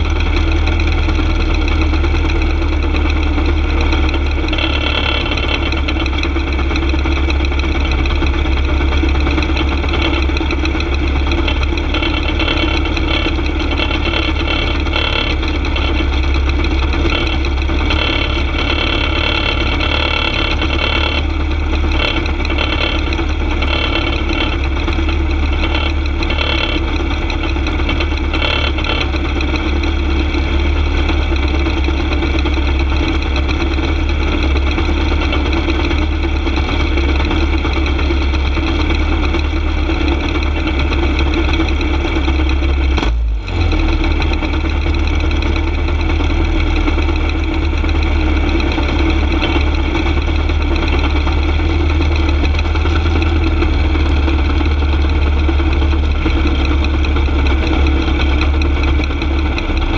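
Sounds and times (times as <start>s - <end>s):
go-kart engine idling: 0.0s - 59.9s.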